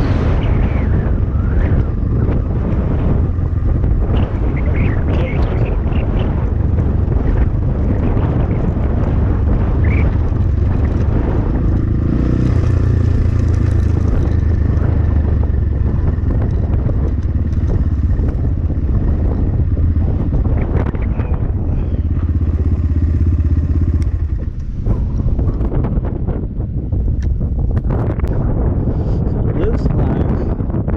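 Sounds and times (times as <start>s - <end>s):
dirt bike engine running: 0.0s - 29.3s
wind buffeting microphone: 0.0s - 30.9s.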